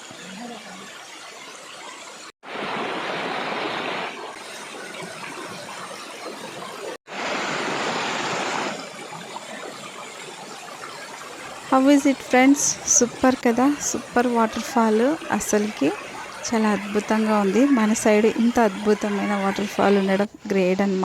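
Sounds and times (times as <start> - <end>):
waterfall rushing: 2.5 - 5.6, 6.3 - 20.4.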